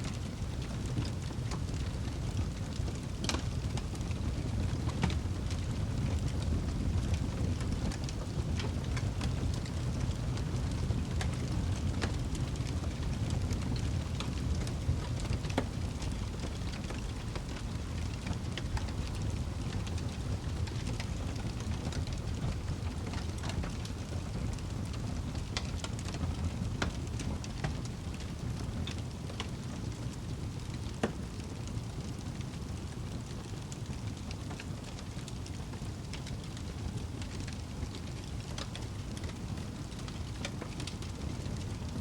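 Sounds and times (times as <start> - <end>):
wood fire burning: 0.0 - 42.0.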